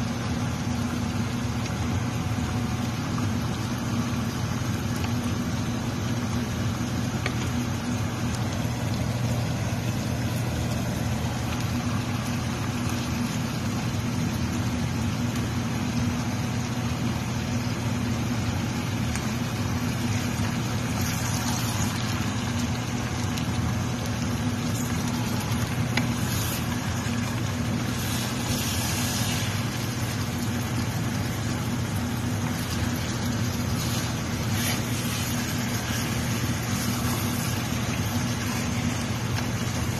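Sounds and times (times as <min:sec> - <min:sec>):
constant hiss: 0:00.0 - 0:39.9
low motor hum: 0:00.0 - 0:39.9.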